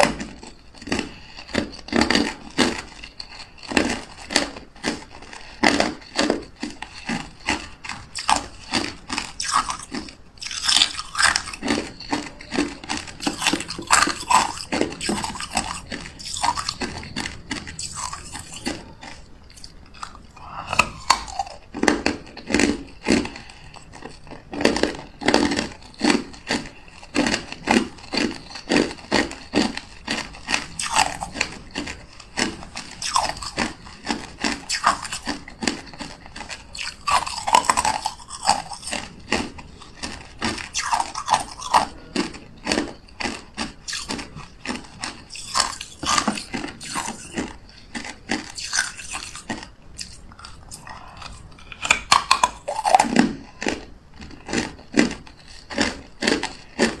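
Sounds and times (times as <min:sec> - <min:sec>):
ice being chewed crunching: 0:00.0 - 0:57.0.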